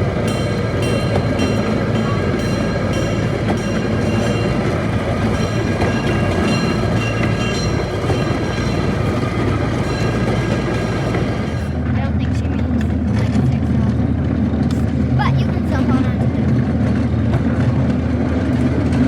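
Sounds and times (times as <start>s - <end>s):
train cars rumbling on track: 0.0s - 19.0s
wheels clicking: 0.0s - 19.0s.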